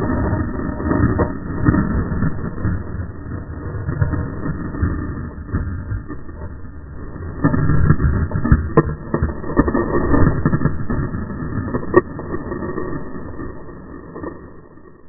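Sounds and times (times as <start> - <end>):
bike tyre rumble and rattling: 0.0 - 15.0.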